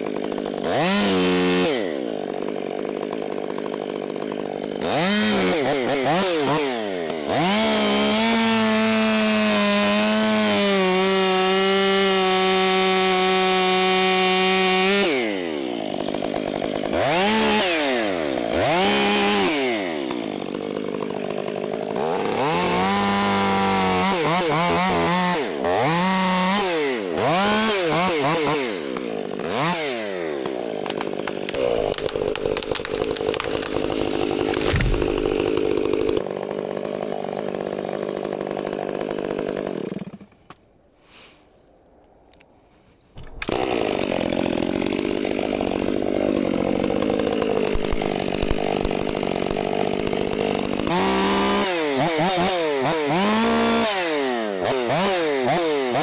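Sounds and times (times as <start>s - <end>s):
chainsaw engine revving and cutting: 0.0s - 40.3s, 43.4s - 56.0s.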